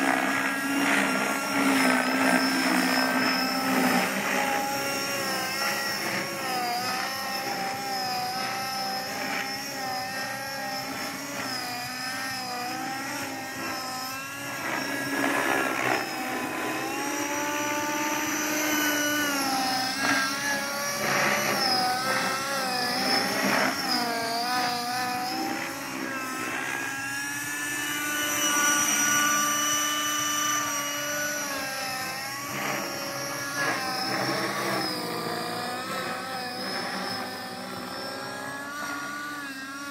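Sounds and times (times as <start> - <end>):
model helicopter engine whine: 0.0 - 39.9.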